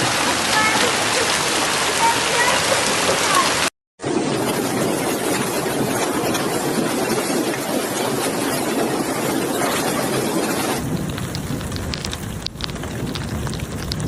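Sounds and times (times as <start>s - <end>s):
heavy rain and running water: 0.0s - 14.0s.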